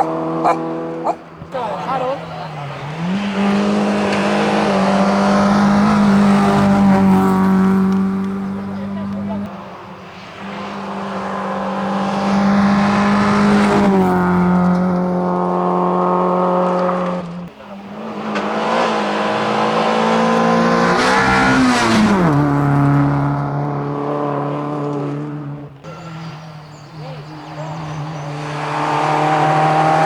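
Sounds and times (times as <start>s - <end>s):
race car engine revving high: 0.0s - 30.0s.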